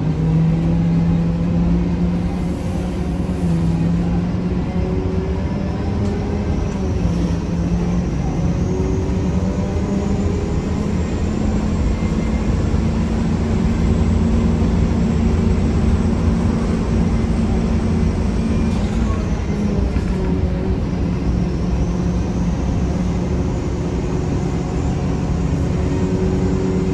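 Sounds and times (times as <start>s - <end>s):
bus engine and drivetrain grinding: 0.0s - 26.9s.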